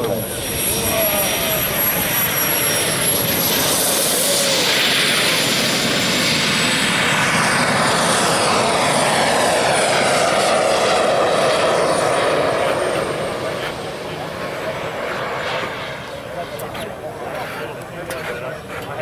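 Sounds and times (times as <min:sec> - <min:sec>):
model jet turbine whine: 0:00.0 - 0:19.0.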